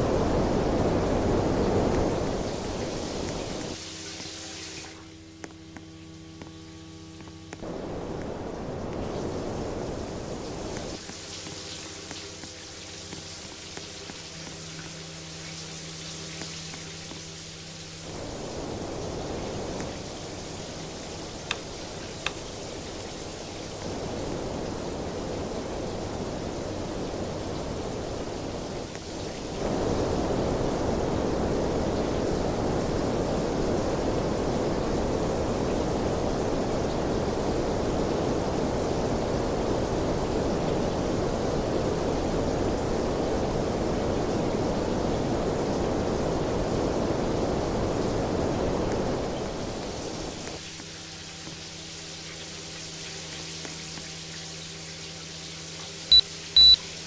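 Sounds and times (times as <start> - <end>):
fan blowing air: 0.0 - 50.8
steady low hum: 0.0 - 54.5.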